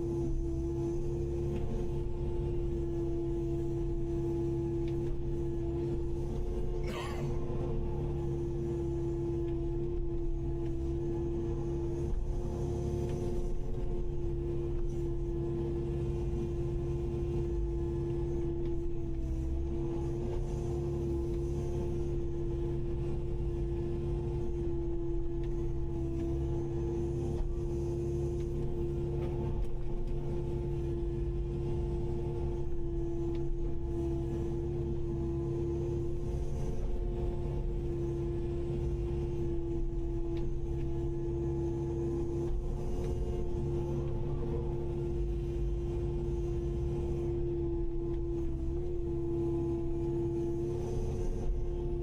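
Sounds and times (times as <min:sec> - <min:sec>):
excavator engine and hydraulics running: 0:00.0 - 0:52.0.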